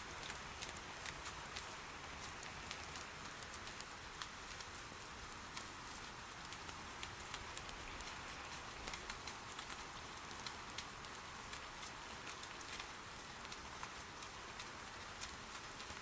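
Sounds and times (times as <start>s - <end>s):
soft steady rain: 0.0s - 16.0s
wood fire crackling: 0.0s - 16.0s.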